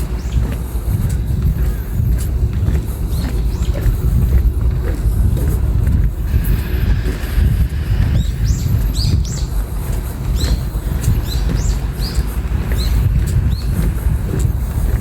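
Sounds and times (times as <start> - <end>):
small birds chirping: 0.0 - 15.0
wind buffeting microphone: 0.0 - 15.0.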